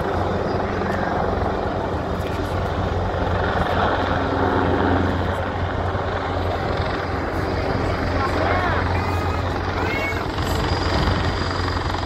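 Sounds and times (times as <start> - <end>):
helicopter rotor and turbine hum: 0.0 - 12.0.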